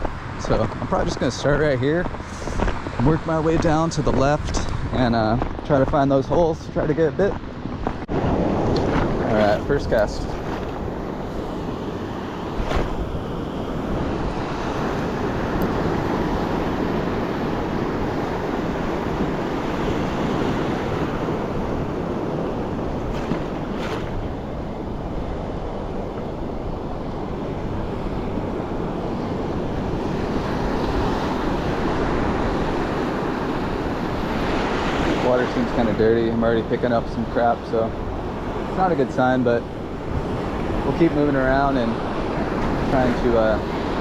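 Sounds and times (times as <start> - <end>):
ocean surf breaking: 0.0 - 44.0
wind buffeting microphone: 0.0 - 44.0.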